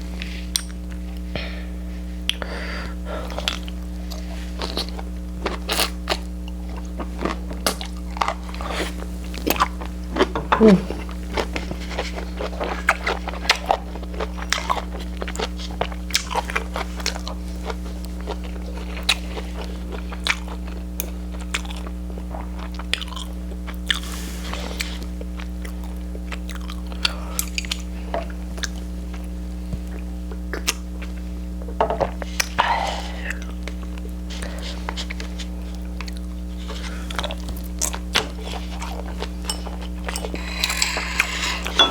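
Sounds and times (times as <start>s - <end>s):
steady low hum: 0.0s - 41.9s
person chewing crunchy food: 2.0s - 41.9s.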